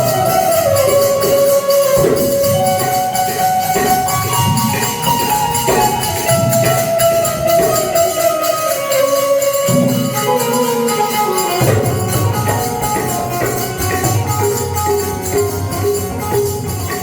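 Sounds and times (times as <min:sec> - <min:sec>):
jingling percussion: 0:00.0 - 0:17.0
melody of long held notes: 0:00.0 - 0:17.0.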